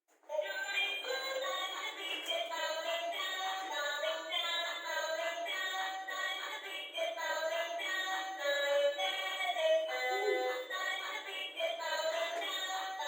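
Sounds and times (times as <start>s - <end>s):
song with singing voice: 0.2s - 13.0s.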